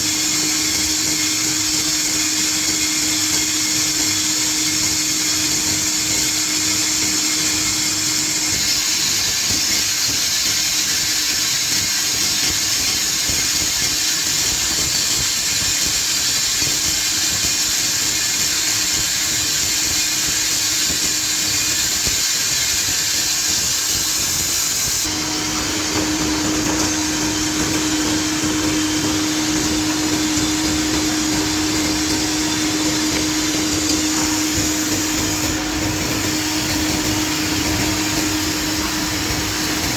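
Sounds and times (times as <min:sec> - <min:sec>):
milling machine hissing and humming: 0:00.0 - 0:39.9.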